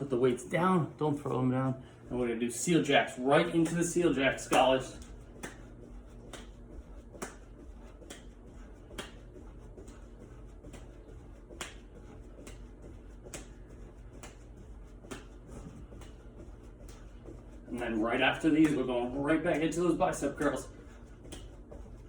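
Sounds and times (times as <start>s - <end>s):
hand claps: 3.4s - 21.9s.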